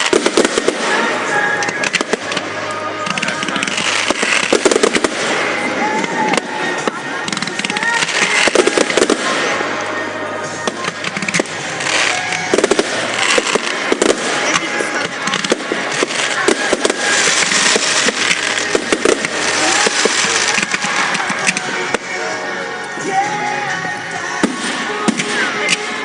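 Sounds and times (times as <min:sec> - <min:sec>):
fireworks crackling and hissing: 0:00.0 - 0:26.0
fireworks cracks and bangs: 0:00.0 - 0:26.0.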